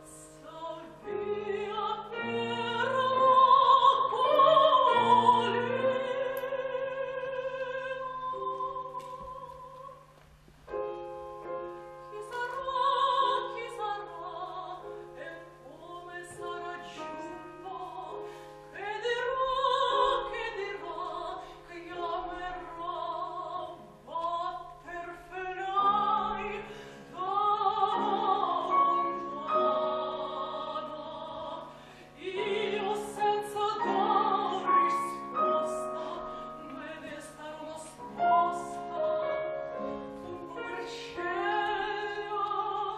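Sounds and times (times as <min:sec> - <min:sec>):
woman singing opera: 0:00.0 - 0:10.2, 0:12.0 - 0:42.9
grand piano: 0:00.0 - 0:42.9.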